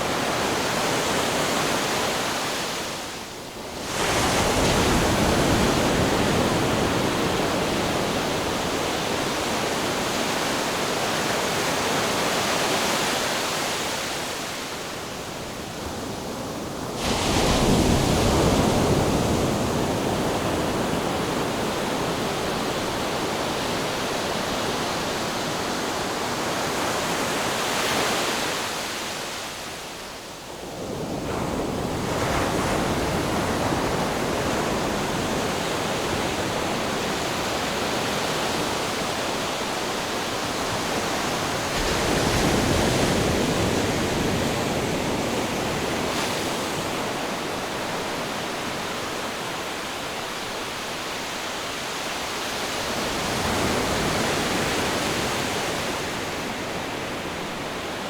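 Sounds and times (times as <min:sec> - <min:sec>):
ocean waves washing ashore: 0:00.0 - 0:58.0.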